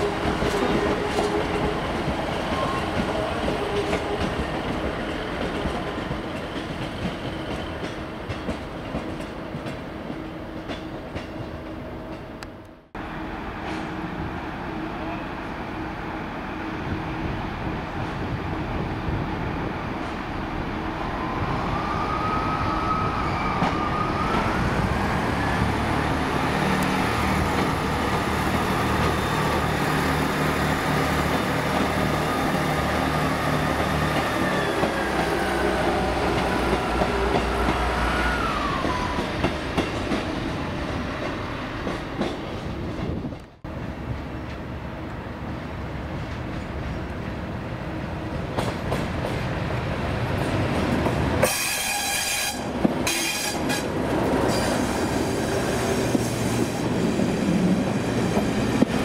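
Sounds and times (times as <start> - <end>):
train whine: 0.0 - 59.0.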